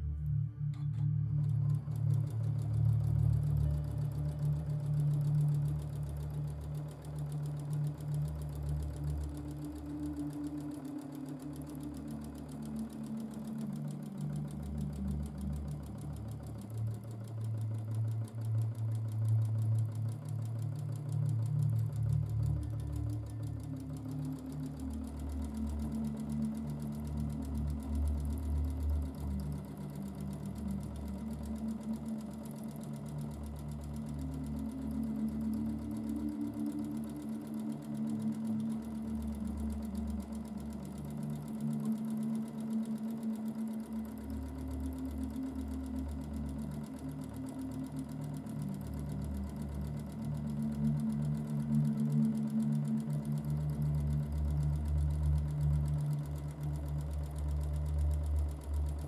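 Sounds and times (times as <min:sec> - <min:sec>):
sewing machine running: 0:01.2 - 0:59.0.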